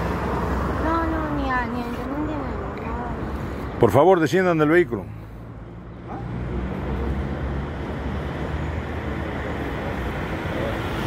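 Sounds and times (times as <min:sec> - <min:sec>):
street noise: 0:00.0 - 0:11.0
vehicle engine rumbling: 0:00.0 - 0:11.0.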